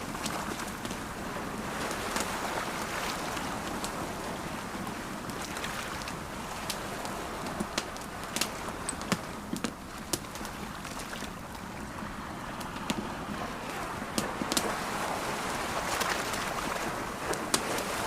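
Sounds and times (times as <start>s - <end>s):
campfire crackling and popping: 0.0s - 18.0s
ocean waves: 0.0s - 18.0s.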